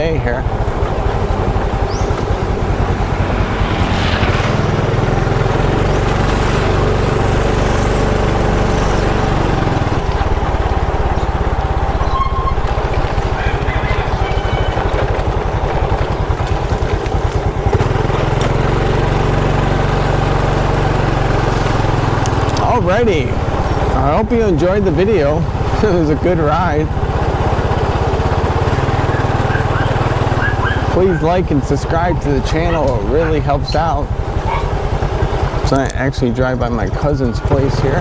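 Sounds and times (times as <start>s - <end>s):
small motorcycle engine running: 0.0s - 38.0s.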